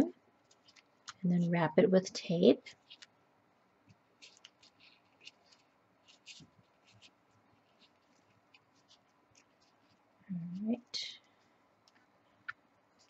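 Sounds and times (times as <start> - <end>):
tape rustling and ticking: 0.0 - 1.6, 2.6 - 3.2, 3.8 - 13.0.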